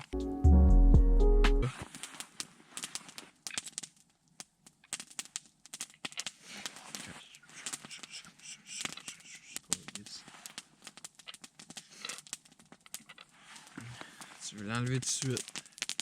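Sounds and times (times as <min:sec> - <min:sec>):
campfire crackling and popping: 0:01.8 - 0:16.0.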